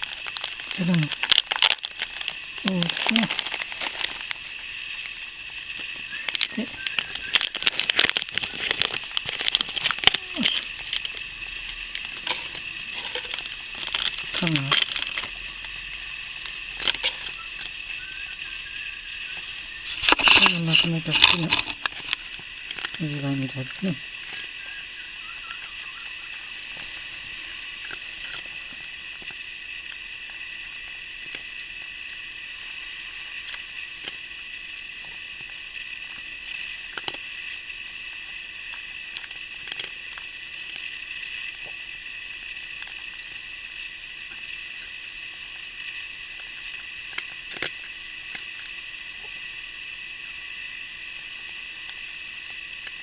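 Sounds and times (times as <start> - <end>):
cat eating wet food: 0.0 - 53.0
steady high-pitched hiss: 0.0 - 53.0.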